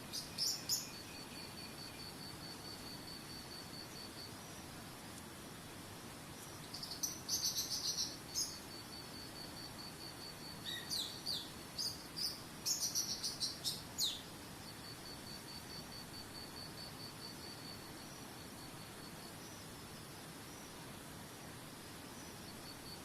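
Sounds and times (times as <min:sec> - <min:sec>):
insect pulsing trill: 0:00.0 - 0:04.7, 0:06.4 - 0:20.8, 0:21.7 - 0:23.0
songbird singing: 0:00.0 - 0:05.4, 0:06.2 - 0:21.0, 0:21.9 - 0:23.0
running water hiss: 0:00.0 - 0:23.0.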